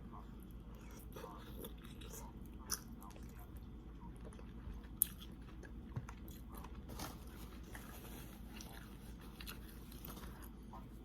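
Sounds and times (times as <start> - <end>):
person chewing food: 0.2 - 10.8.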